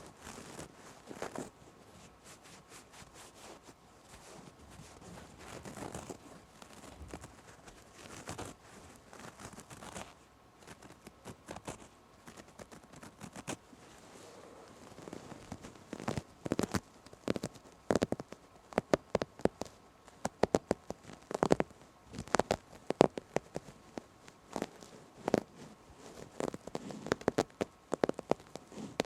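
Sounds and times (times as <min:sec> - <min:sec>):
tapping and scratching on fabric: 0:00.0 - 0:29.0.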